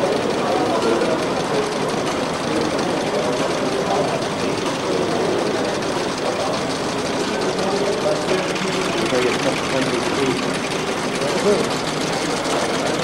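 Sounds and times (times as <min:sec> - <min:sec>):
model engines clattering: 0:00.0 - 0:13.0.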